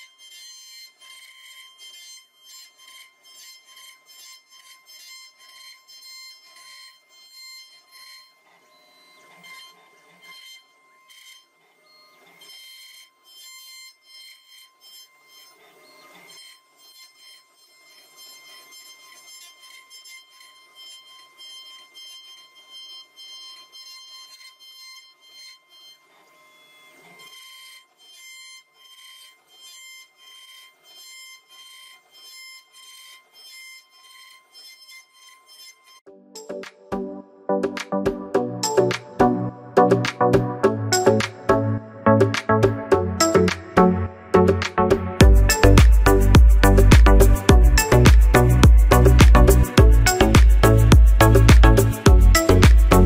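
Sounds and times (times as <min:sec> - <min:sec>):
router spindle whine cutting wood: 0:00.0 - 0:53.0.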